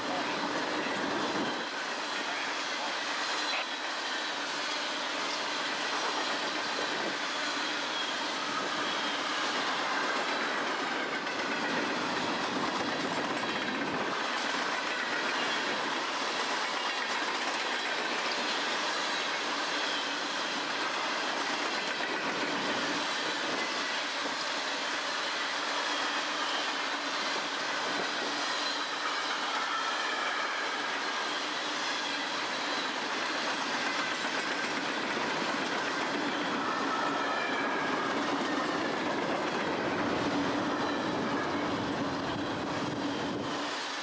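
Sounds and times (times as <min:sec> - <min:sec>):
high wheel squeals: 0:00.0 - 0:44.0
train wheels rattling on rails: 0:00.0 - 0:44.0.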